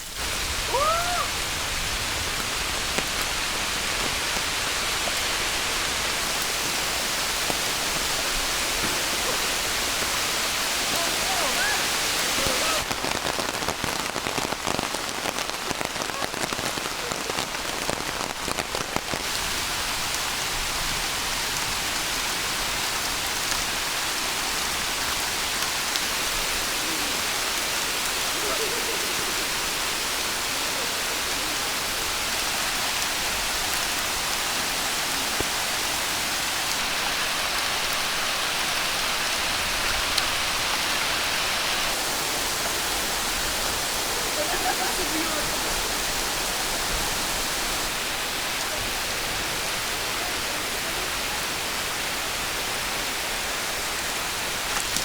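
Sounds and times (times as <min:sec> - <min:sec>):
close rain drops pattering: 0:00.0 - 0:55.0
heavy rain hiss: 0:00.0 - 0:55.0.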